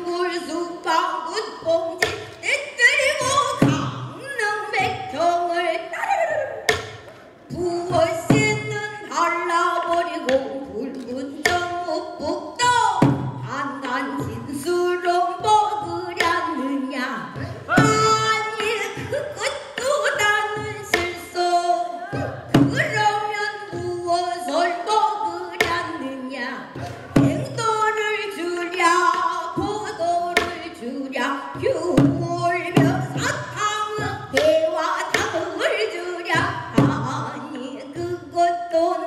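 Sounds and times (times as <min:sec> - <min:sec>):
woman singing in rough voice: 0:00.0 - 0:06.8, 0:07.5 - 0:39.0.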